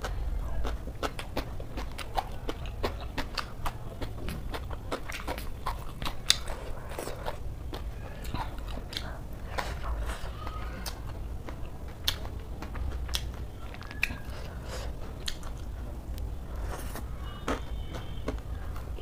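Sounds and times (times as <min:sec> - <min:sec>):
chewing crunchy cabbage: 0:00.0 - 0:19.0
low steady hum: 0:00.0 - 0:19.0.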